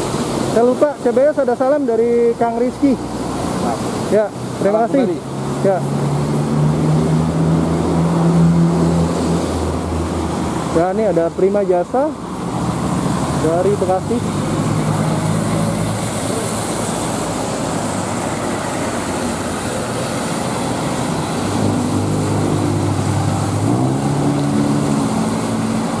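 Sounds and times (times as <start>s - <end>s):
tyres hissing on wet asphalt: 0.0s - 26.0s
bus engine droning by: 3.0s - 26.0s.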